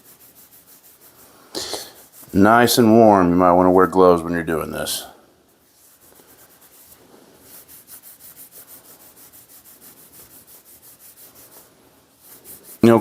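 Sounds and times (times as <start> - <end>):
rapid rhythmic rubbing on wood: 0.0 - 3.1, 5.5 - 13.0.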